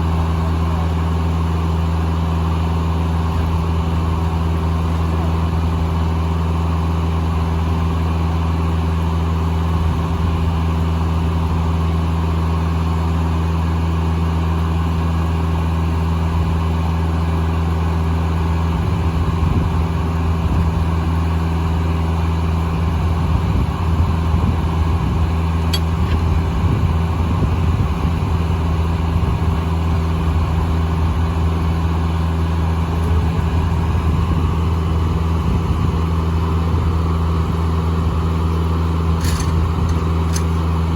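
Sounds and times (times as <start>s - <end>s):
sawmill engine droning: 0.0s - 40.9s.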